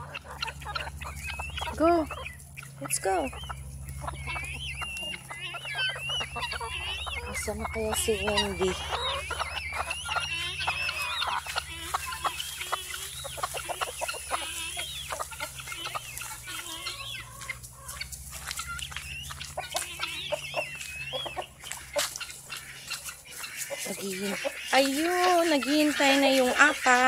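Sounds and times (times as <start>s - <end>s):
chickens clucking and squawking: 0.0s - 27.0s.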